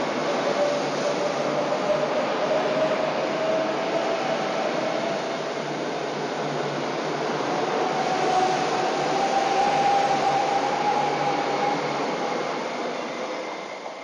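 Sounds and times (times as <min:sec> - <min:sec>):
steady train whine: 0:00.0 - 0:14.0
train rushing past: 0:00.0 - 0:14.0.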